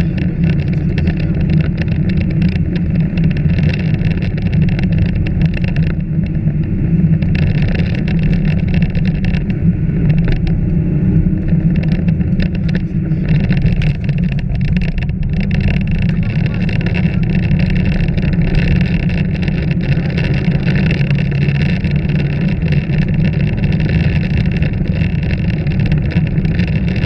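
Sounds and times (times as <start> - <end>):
gravel clattering against underbody: 0.0 - 27.0
rally car engine under load: 0.0 - 27.0.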